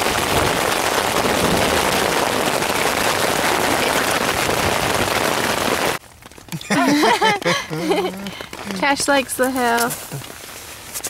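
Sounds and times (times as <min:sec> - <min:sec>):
hail and rain on tent fabric: 0:00.0 - 0:11.0.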